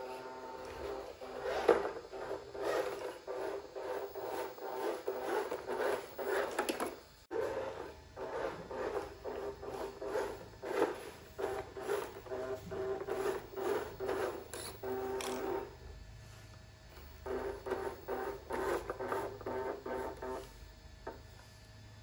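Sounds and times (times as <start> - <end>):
rc car motor whirring: 0.0 - 15.8, 16.9 - 21.2.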